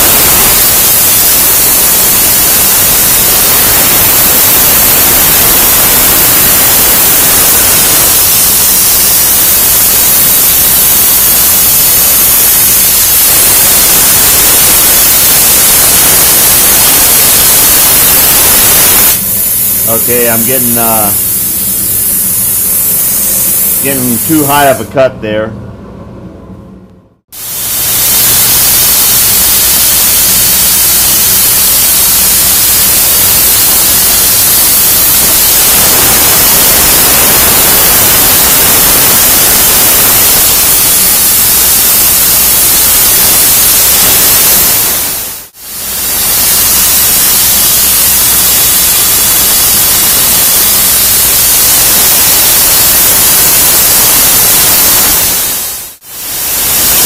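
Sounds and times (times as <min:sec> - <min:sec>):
plasma torch hissing: 0:00.0 - 0:24.9, 0:27.4 - 0:57.0.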